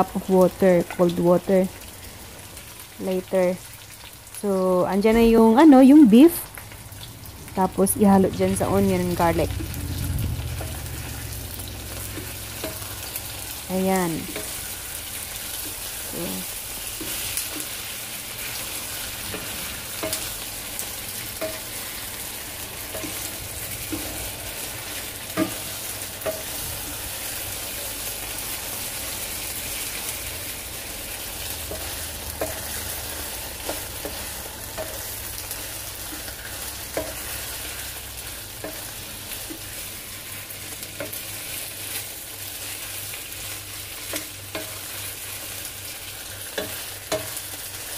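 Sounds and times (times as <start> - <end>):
beef sizzling in oil: 0.0 - 47.9.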